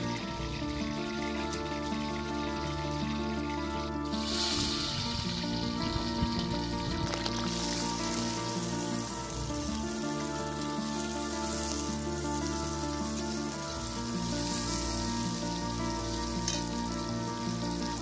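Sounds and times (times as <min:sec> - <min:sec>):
background music with held notes: 0:00.0 - 0:18.0
food sizzling in hot oil: 0:00.0 - 0:18.0.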